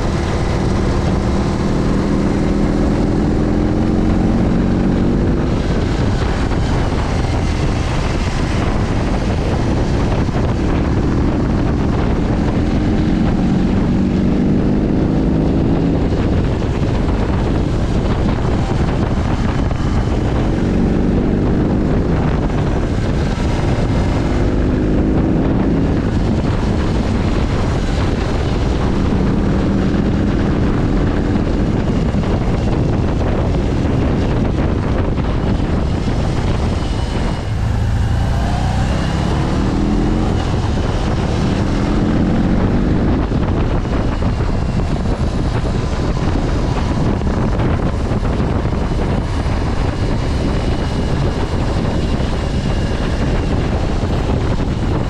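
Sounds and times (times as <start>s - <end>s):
motorcycle engine accelerating: 0.0s - 55.0s
wind noise on microphone: 0.0s - 55.0s.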